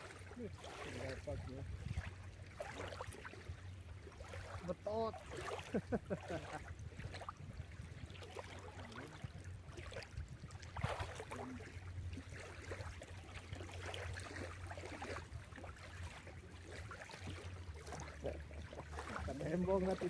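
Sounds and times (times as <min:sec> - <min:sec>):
water lapping and gurgling: 0:00.0 - 0:20.0.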